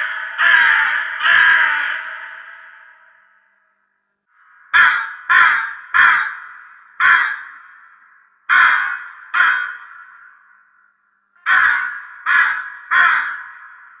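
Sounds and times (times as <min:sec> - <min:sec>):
crow cawing: 0:00.0 - 0:03.7, 0:04.4 - 0:14.0.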